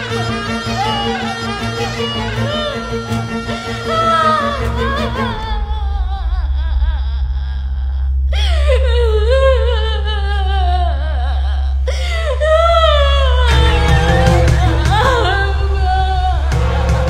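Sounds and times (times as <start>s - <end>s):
low drone: 0.0s - 17.0s
mournful wordless vocal: 0.0s - 17.0s.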